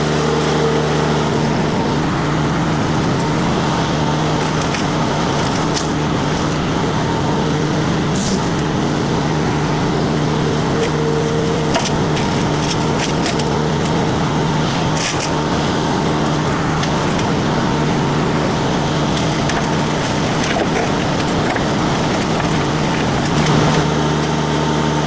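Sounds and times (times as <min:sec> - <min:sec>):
diesel engine under load: 0:00.0 - 0:25.0
mulcher grinding wood: 0:00.0 - 0:25.0
wood splintering cracks: 0:02.3 - 0:06.7, 0:08.1 - 0:25.0.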